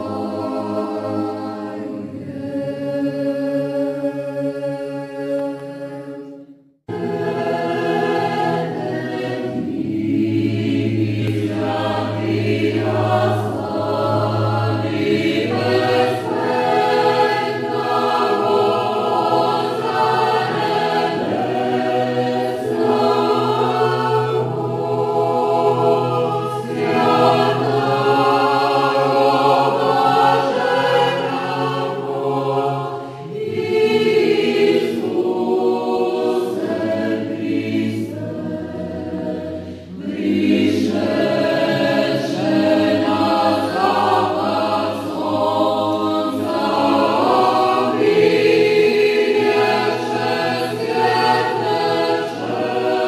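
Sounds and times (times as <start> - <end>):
youth choir singing a cappella: 0.0 - 53.0.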